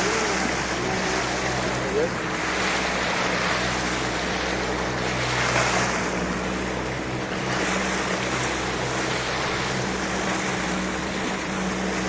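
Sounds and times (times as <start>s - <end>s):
boat engine humming: 0.0s - 12.0s
water rushing along boat hull: 0.0s - 12.0s.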